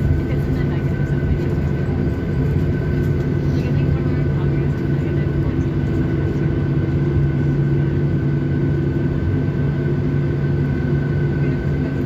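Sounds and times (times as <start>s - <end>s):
jet engine drone and whine: 0.0s - 12.0s.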